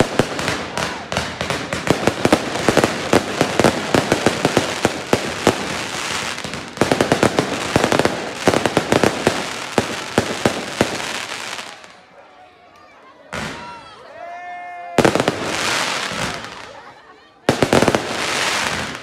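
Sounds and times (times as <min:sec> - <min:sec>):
fireworks bangs and crackling: 0:00.0 - 0:12.0, 0:13.3 - 0:13.8, 0:15.0 - 0:16.9, 0:17.5 - 0:19.0.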